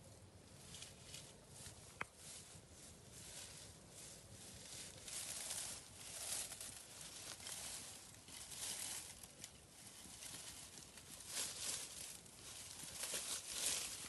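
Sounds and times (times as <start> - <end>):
leafy branches rustling: 0.0 - 14.0.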